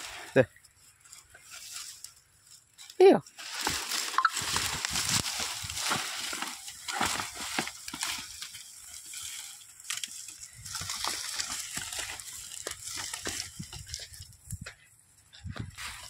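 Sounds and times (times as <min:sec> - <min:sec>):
hooves scuffing in sand: 0:00.0 - 0:16.0
twigs crackling and snapping: 0:00.0 - 0:16.0.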